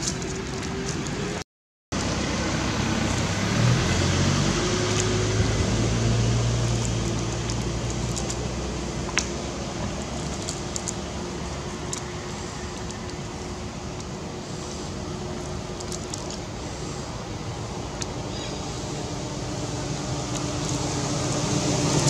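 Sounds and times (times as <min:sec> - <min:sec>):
steady outdoor hiss: 0:00.0 - 0:22.0
low motor drone: 0:02.0 - 0:22.0.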